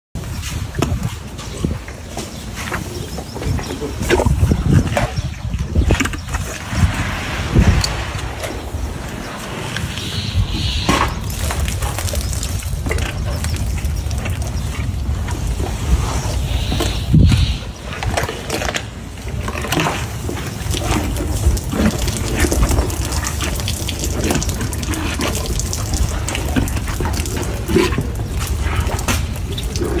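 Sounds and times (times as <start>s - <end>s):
elephant chewing watermelon: 0.2s - 30.0s.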